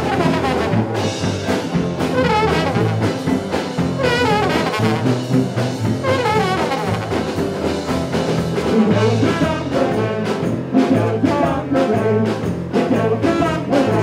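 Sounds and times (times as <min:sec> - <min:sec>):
accordion: 0:00.0 - 0:14.0
drum kit: 0:00.0 - 0:14.0
electric guitar: 0:00.0 - 0:14.0
trombone: 0:00.0 - 0:14.0.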